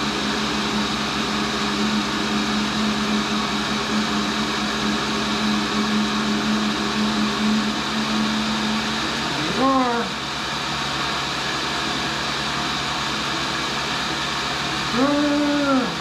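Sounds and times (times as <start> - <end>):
grinder motor humming: 0.0 - 16.0.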